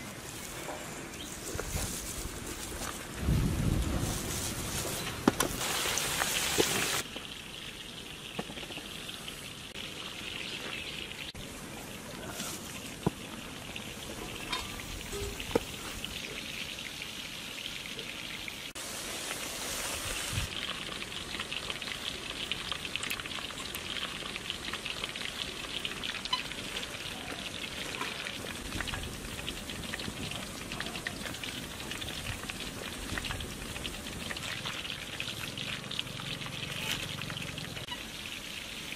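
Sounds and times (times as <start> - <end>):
chicken deep-frying in oil: 0.0 - 38.9.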